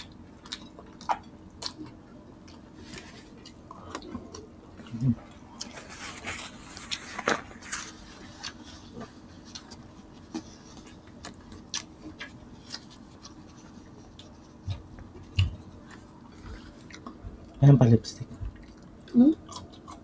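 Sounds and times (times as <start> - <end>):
wet chewing and smacking: 0.0 - 17.6, 18.2 - 20.0.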